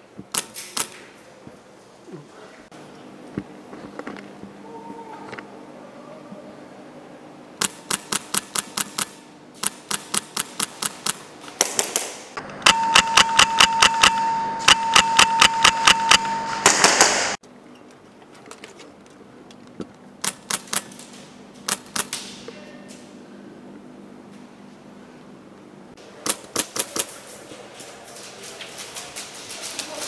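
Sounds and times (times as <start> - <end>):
steady high hum: 0.0 - 28.0.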